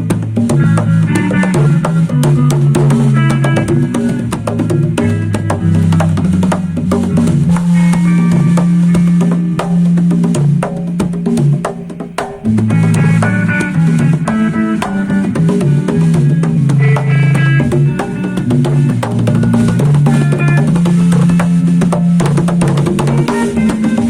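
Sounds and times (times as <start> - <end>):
band playing: 0.0 - 24.0.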